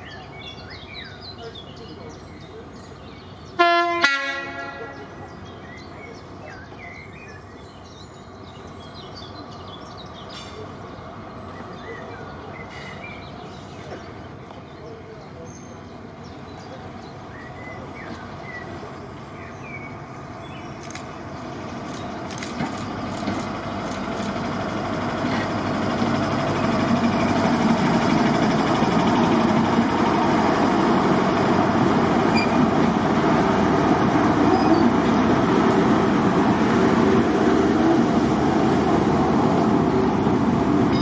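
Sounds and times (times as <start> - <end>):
diesel locomotive engine: 0.0 - 41.0.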